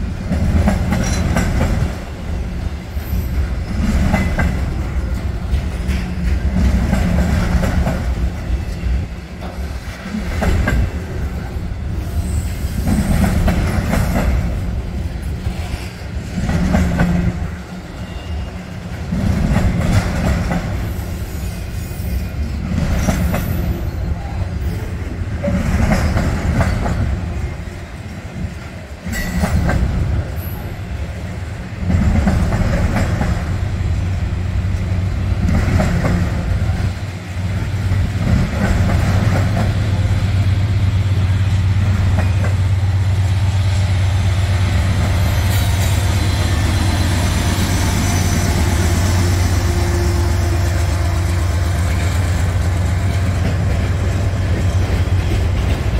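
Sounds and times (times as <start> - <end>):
train wheels clacking on rail joints: 0.0 - 31.1, 31.7 - 55.9
diesel locomotive engine drone: 0.0 - 55.9.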